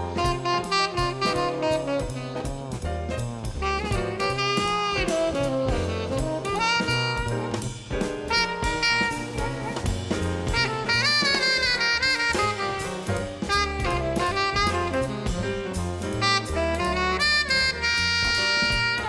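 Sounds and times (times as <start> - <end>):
tenor saxophone: 0.0 - 2.9, 3.5 - 19.0
drum kit: 0.0 - 19.0
piano: 0.0 - 19.0
upright bass: 0.0 - 19.0.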